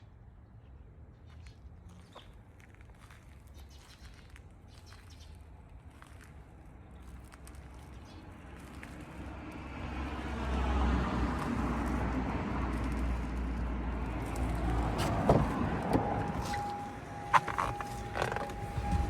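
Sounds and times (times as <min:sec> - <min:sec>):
vehicle engine and tyre noise: 0:00.0 - 0:19.0.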